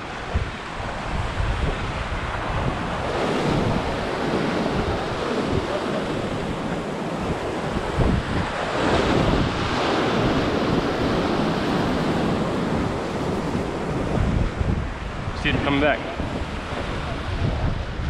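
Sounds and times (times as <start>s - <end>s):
waves breaking over rocks: 0.0s - 18.0s
wind buffeting microphone: 0.0s - 18.0s.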